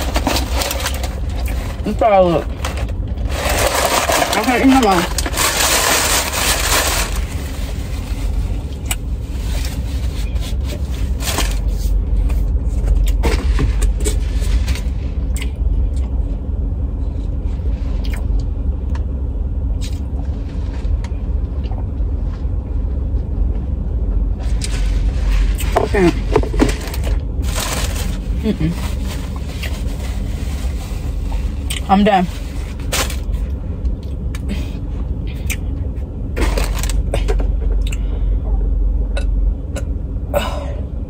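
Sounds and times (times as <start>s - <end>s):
car cabin rumble: 0.0s - 41.0s.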